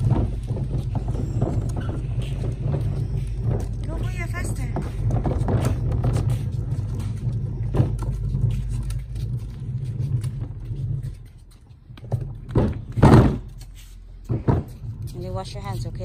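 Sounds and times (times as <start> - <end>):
cart knock: 0.0 - 11.2, 12.0 - 13.6, 14.3 - 16.0
cart wheels rolling over asphalt: 0.0 - 16.0.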